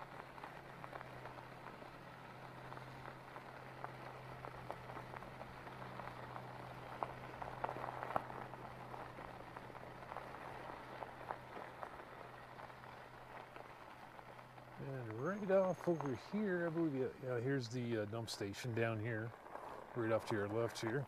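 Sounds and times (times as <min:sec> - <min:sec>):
bike tyres crackling on gravel: 0:00.0 - 0:21.0
low steady hum: 0:00.0 - 0:21.0.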